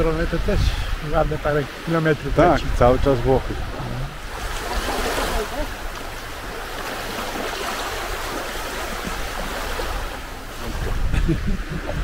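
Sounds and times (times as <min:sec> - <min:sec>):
small waves lapping: 0:00.0 - 0:12.0
wind rumble on microphone: 0:00.0 - 0:12.0.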